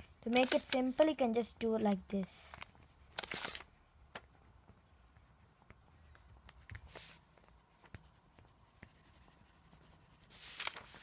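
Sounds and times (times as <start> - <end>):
colouring strokes on paper: 0.0 - 3.6, 4.2 - 11.0.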